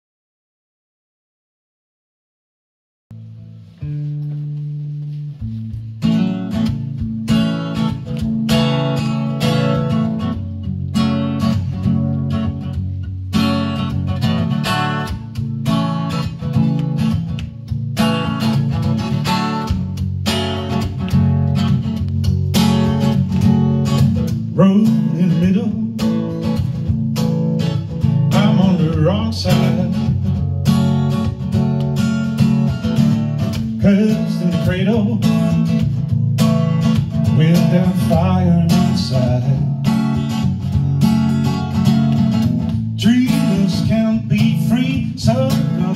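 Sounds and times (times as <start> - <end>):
acoustic guitar strumming: 3.1 - 45.9.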